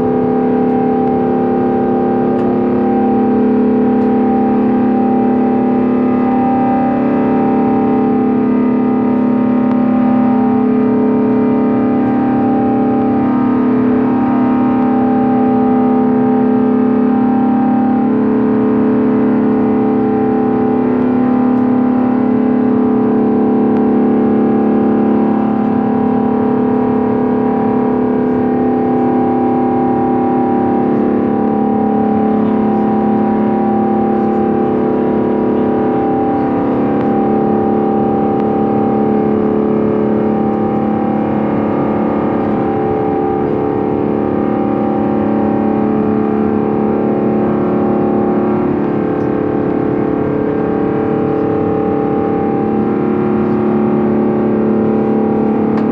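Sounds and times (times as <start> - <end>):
jet engines droning in cabin: 0.0 - 55.9.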